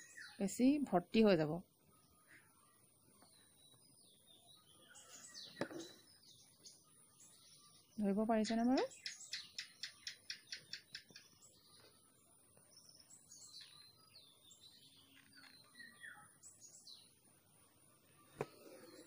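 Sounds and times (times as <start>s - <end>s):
birds chirping faintly: 0.0s - 19.0s.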